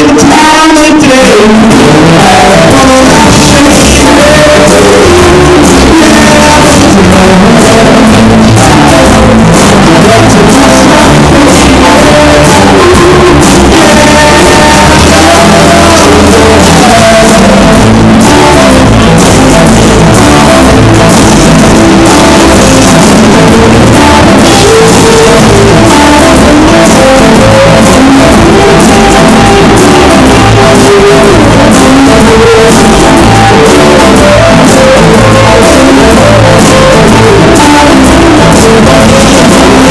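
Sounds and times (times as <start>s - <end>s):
drums: 0.0s - 39.9s
electric guitar: 0.0s - 39.9s
person singing: 0.0s - 39.9s.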